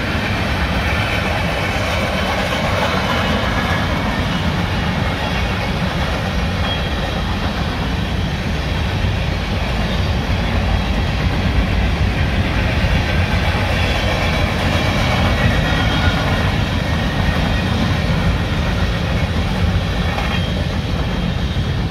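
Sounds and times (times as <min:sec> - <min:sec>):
freight train wheels on rails: 0:00.0 - 0:21.9.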